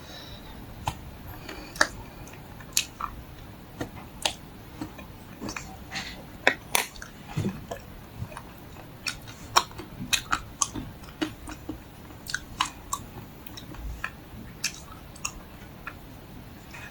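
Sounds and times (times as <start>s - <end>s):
chewing crunchy ice cream bar: 0.6s - 16.9s.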